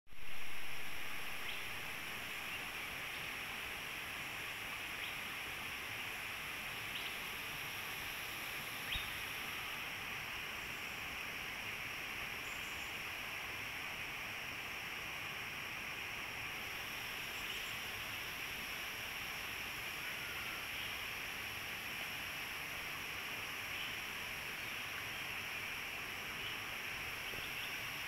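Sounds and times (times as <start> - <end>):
forest ambience hiss: 0.1 - 28.0.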